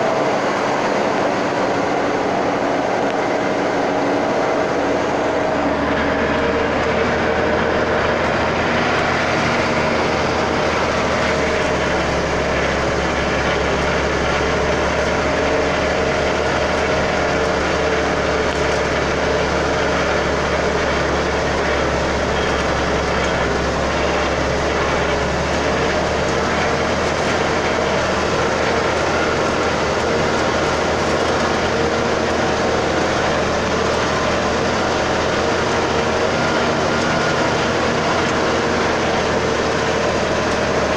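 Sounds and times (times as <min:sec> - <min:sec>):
rumbling road noise: 0:00.0 - 0:40.9
truck engine drone: 0:00.0 - 0:40.9.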